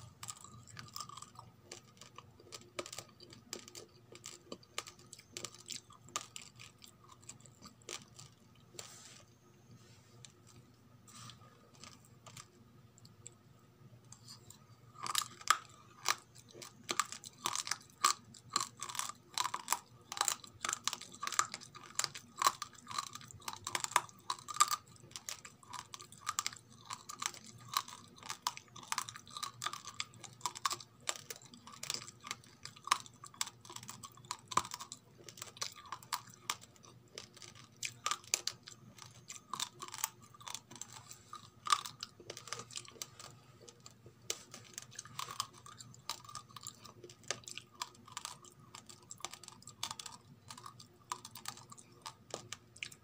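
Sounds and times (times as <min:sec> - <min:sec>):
crunchy chewing of rice: 0:00.0 - 0:13.4, 0:14.1 - 0:53.0.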